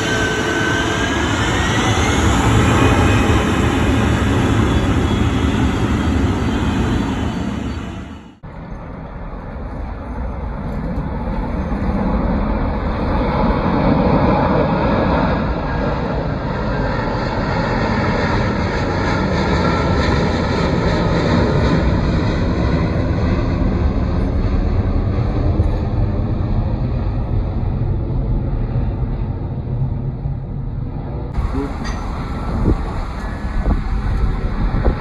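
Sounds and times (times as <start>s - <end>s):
jet engines running: 0.0s - 8.4s, 10.4s - 35.0s.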